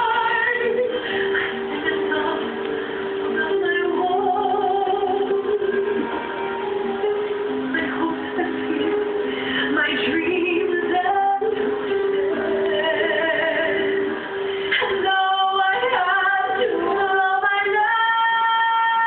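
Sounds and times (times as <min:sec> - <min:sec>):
woman singing with accompaniment: 0:00.0 - 0:19.0.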